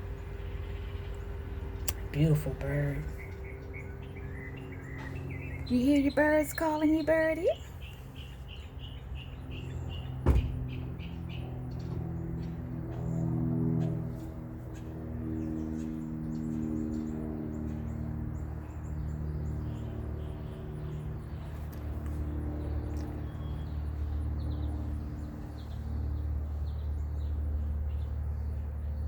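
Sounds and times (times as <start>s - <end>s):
small songbirds chirping: 0.0s - 14.0s, 14.7s - 29.0s
steady low hum: 0.0s - 29.0s.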